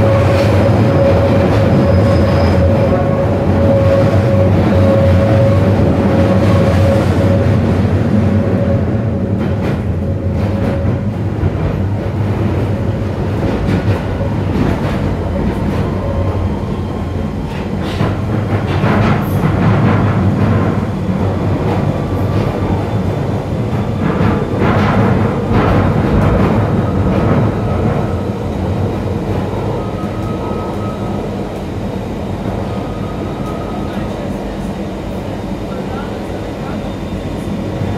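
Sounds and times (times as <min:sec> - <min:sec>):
train whine: 0:00.0 - 0:37.9
tube train rumble in tunnel: 0:00.0 - 0:37.9.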